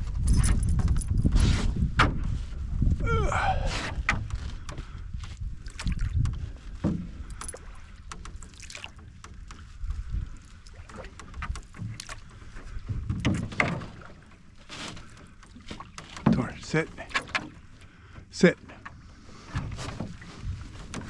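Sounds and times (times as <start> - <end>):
canoe knocks and creaks: 0.0 - 21.0
paddle strokes in water: 3.4 - 21.0.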